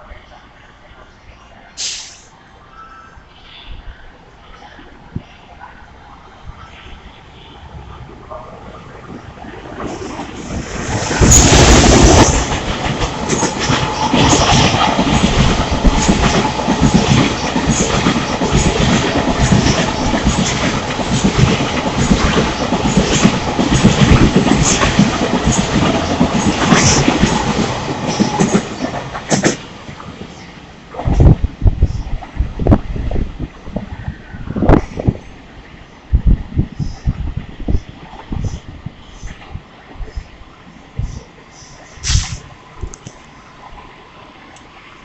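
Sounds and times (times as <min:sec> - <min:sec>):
freight train passing: 0:00.0 - 0:45.0.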